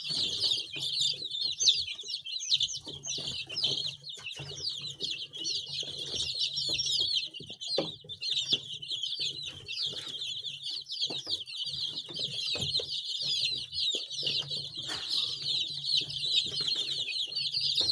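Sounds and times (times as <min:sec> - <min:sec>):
baby chicks peeping: 0:00.0 - 0:17.9.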